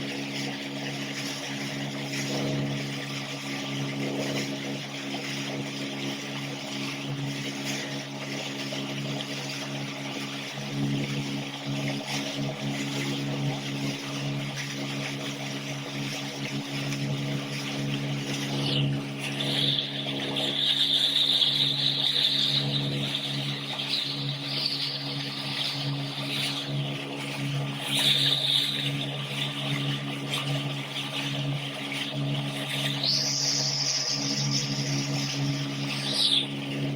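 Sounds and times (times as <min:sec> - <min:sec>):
speedboat engine running: 0:00.0 - 0:36.9
water rushing past hull: 0:00.0 - 0:36.9.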